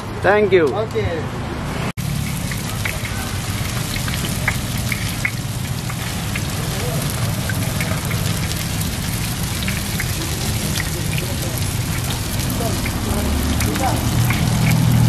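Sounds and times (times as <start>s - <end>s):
oil sizzling with crackling pops: 2.0s - 15.0s.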